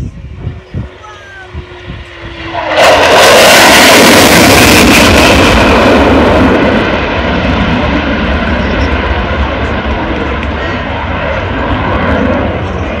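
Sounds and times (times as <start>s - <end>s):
fighter jet passing: 0.0s - 13.0s.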